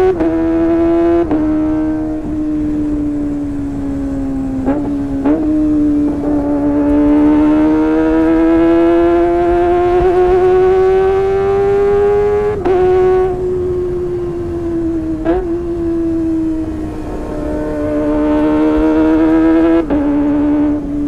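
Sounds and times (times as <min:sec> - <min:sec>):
motorcycle engine high-pitched howl: 0:00.0 - 0:21.0.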